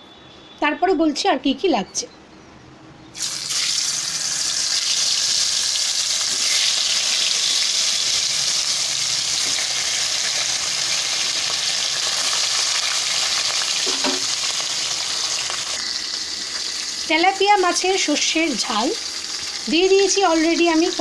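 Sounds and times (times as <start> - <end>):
fish sizzling in hot oil: 3.2 - 21.0.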